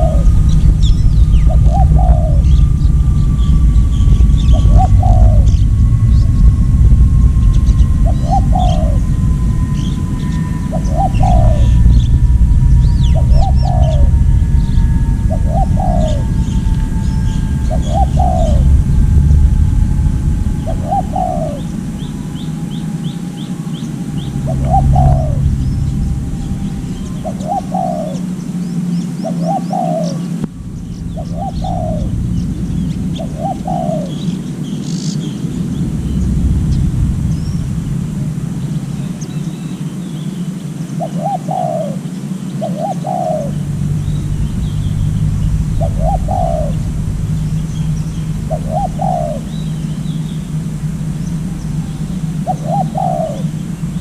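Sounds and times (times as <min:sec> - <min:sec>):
dove cooing: 0:00.0 - 0:39.9, 0:40.7 - 0:54.0
small birds chirping faintly: 0:00.0 - 0:54.0
steady low rumble: 0:00.0 - 0:54.0.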